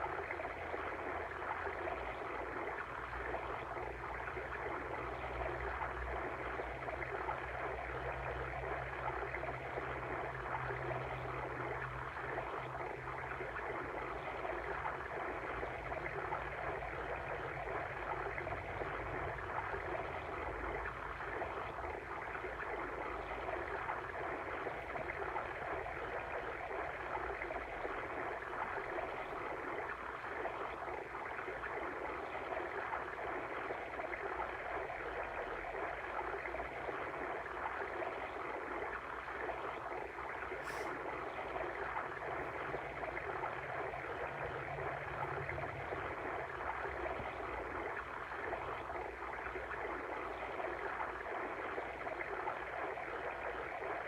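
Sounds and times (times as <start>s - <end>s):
water stream rushing and babbling: 0.0s - 54.0s.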